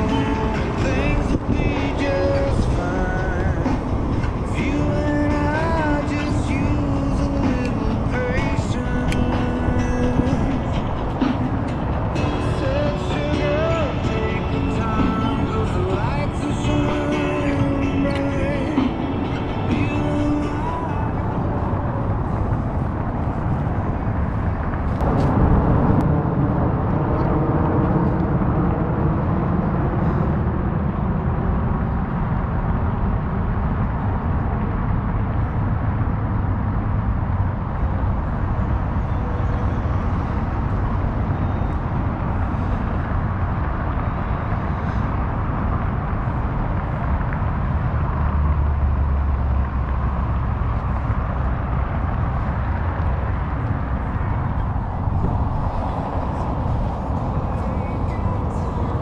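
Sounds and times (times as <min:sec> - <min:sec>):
falling hum: 0:00.0 - 0:59.0
road rumble: 0:00.0 - 0:59.0
wind on microphone: 0:00.0 - 0:59.0.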